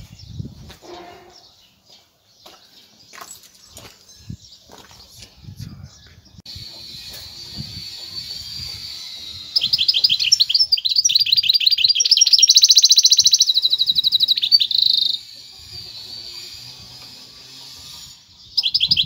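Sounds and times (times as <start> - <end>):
finch singing trills: 0.0 - 19.0.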